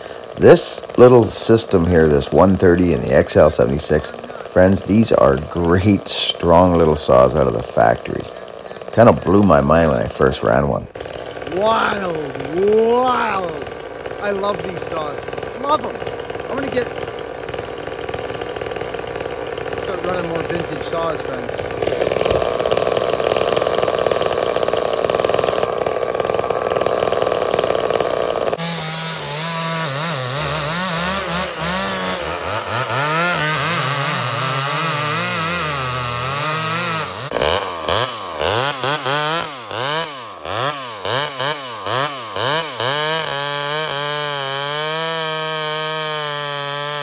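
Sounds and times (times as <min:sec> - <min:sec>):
chainsaw running: 0:00.0 - 0:47.0.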